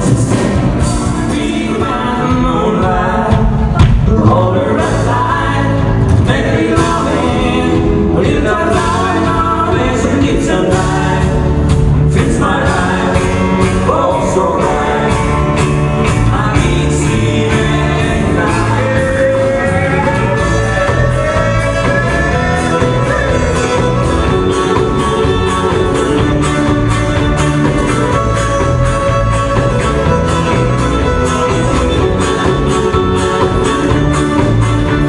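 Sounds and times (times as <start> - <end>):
drums steady beat: 0.0 - 35.0
guitars: 0.0 - 35.0
live country band playing: 0.0 - 35.0
person singing: 0.0 - 35.0.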